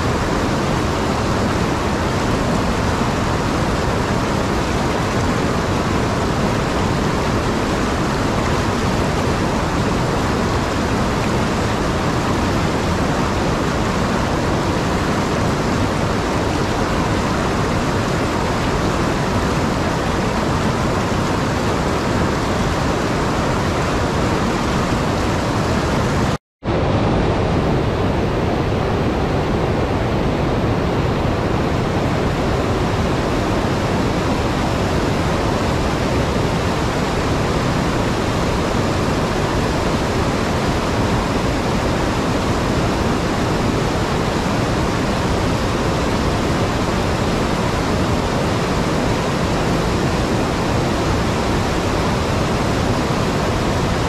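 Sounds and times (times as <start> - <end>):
whitewater rushing over dam: 0.0 - 54.0.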